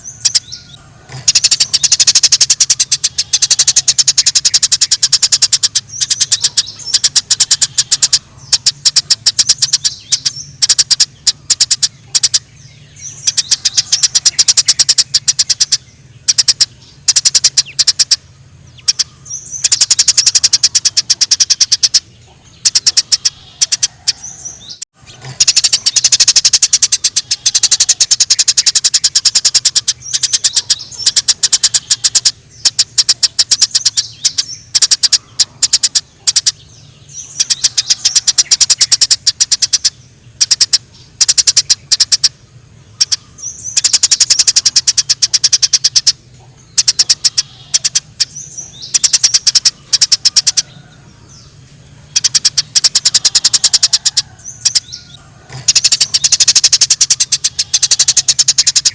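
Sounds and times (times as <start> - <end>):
sparrows chattering: 0.0 - 58.9.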